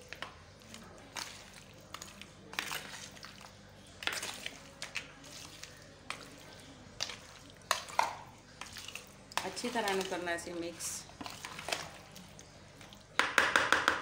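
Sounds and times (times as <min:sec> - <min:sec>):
wet squelches of mixing meat: 0:00.0 - 0:13.6.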